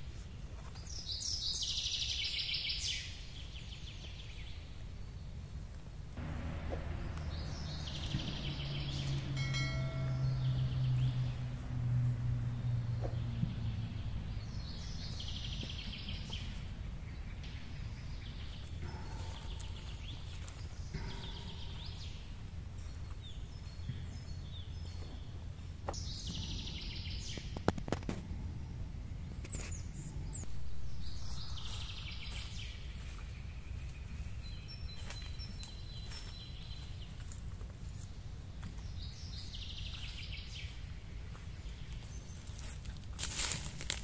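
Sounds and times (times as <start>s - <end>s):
songbirds singing: 0.0s - 44.0s
steady low rumble: 4.3s - 44.0s.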